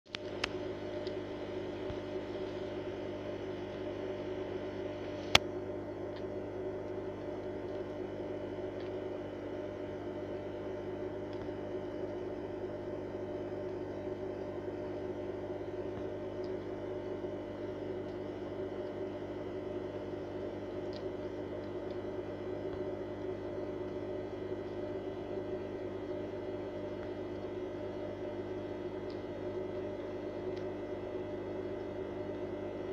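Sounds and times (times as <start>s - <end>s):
electrical hum: 0.1s - 32.9s.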